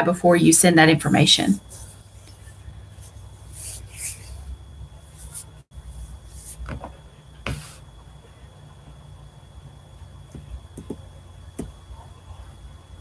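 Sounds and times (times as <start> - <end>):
faint high whine: 0.0 - 13.0
steady low hum: 0.0 - 13.0.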